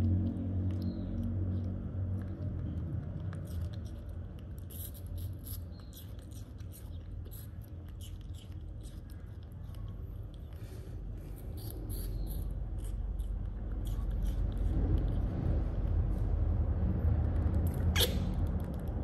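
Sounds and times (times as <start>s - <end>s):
monkey nibbling food clicks: 0.0s - 16.0s, 17.2s - 19.0s
low steady hum: 0.0s - 19.0s.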